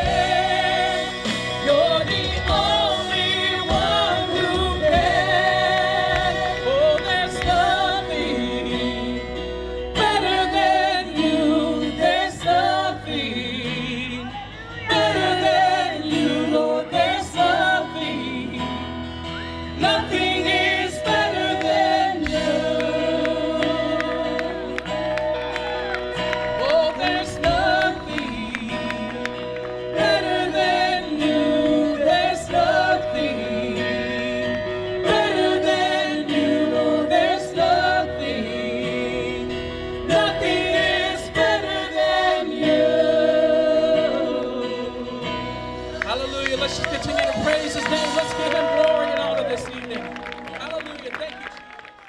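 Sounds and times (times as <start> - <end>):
choir singing: 0.0 - 19.0, 19.6 - 25.3, 26.5 - 49.5
instrumental backing: 0.0 - 51.6.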